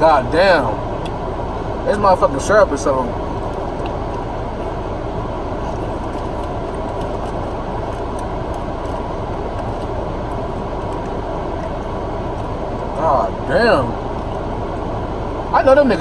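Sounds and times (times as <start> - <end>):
car running heard from inside: 0.0 - 16.0.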